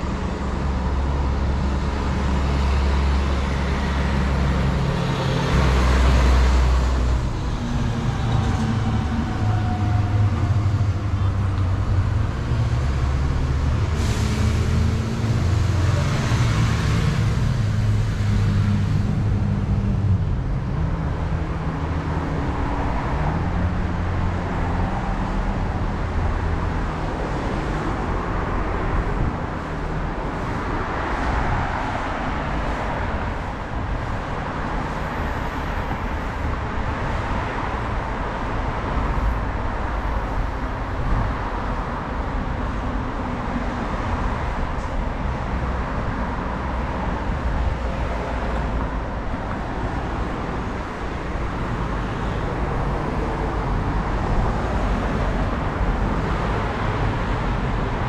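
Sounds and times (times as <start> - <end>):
heavy vehicle engine humming: 0.0 - 58.0.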